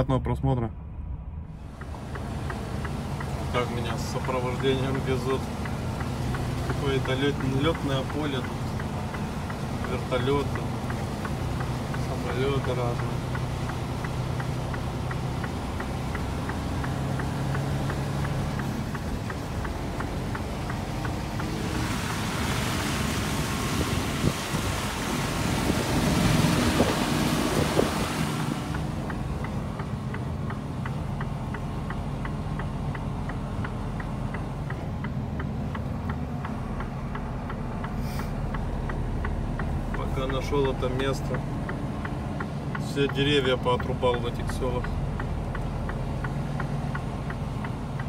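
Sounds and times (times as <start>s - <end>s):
truck diesel engine running: 0.8s - 48.0s
faint regular ticking: 1.6s - 22.3s, 28.5s - 48.0s.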